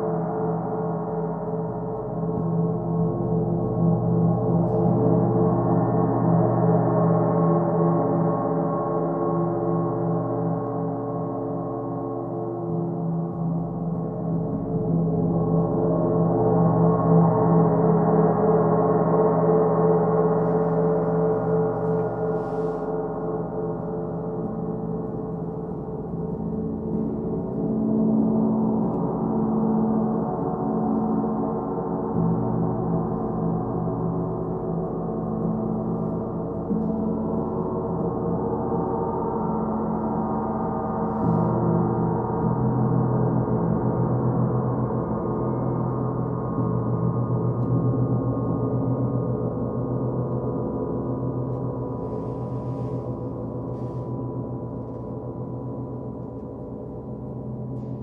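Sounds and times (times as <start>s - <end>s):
low pulsing tone: 0.0s - 58.0s.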